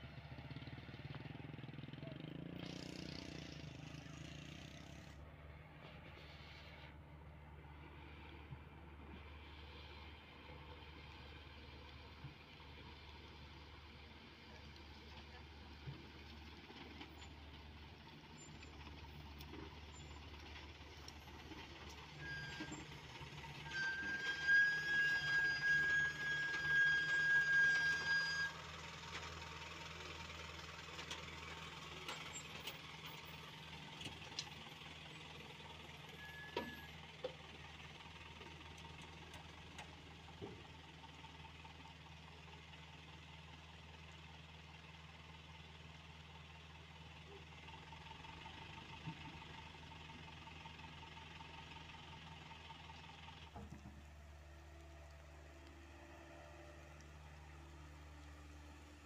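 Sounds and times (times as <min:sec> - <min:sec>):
diesel engines humming: 0:00.0 - 0:59.0.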